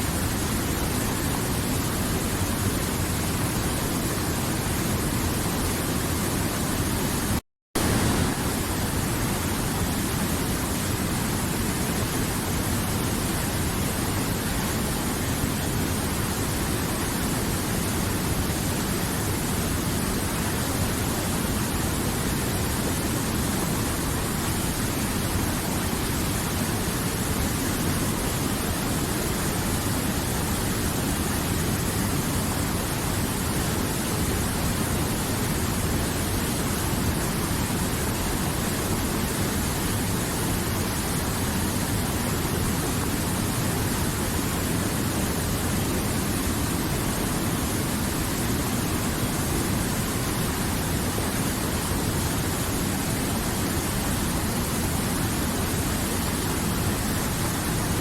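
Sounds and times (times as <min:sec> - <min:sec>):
river water flowing: 0:07.8 - 0:58.0.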